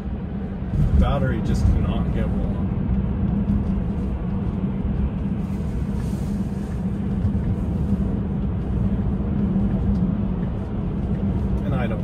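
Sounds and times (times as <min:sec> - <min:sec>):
tyre and road noise in car: 0:00.0 - 0:12.0.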